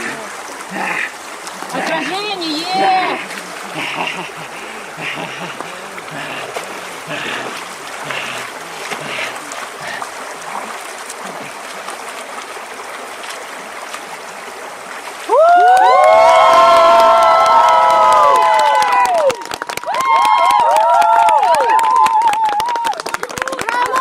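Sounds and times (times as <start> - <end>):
rushing water-like noise: 0.0 - 24.0.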